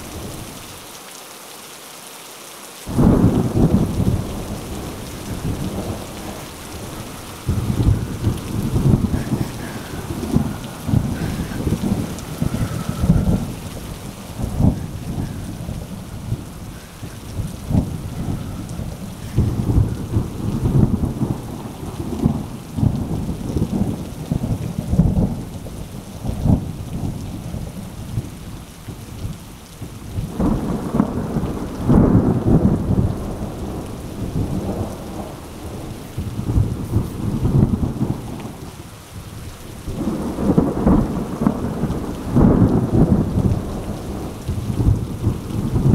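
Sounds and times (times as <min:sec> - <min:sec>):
rain falling: 0:00.0 - 0:45.9
thunder rumbling: 0:02.9 - 0:45.9.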